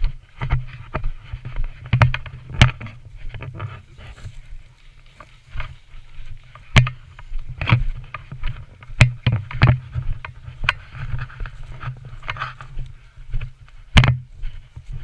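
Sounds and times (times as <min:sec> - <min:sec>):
footsteps crunching through undergrowth: 0:00.0 - 0:15.0
light rustling: 0:00.0 - 0:15.0.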